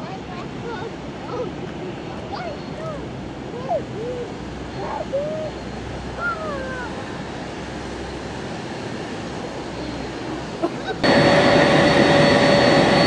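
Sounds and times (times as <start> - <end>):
distant jet engine roar: 0.0 - 13.0.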